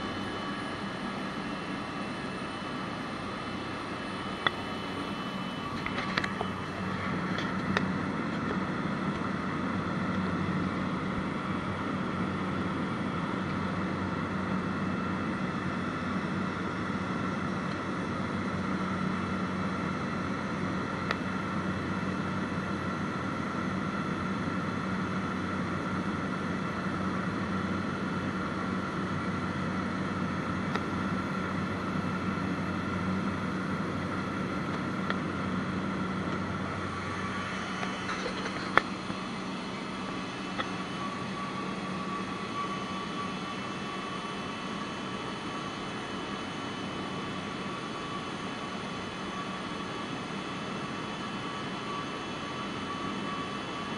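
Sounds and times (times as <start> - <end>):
propeller aircraft cabin drone: 0.0 - 53.9.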